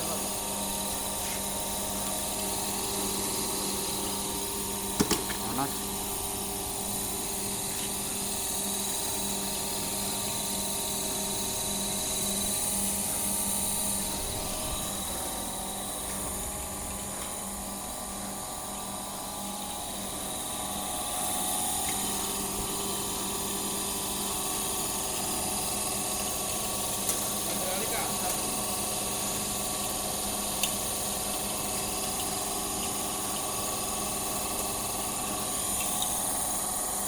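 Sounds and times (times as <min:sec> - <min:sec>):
electric motor humming: 0:00.0 - 0:30.5.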